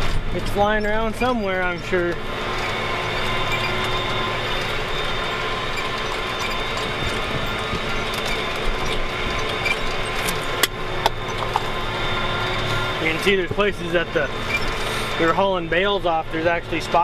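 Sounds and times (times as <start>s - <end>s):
cab rattles and ticks: 0.0s - 13.7s
tractor engine drone with whine: 0.0s - 17.0s.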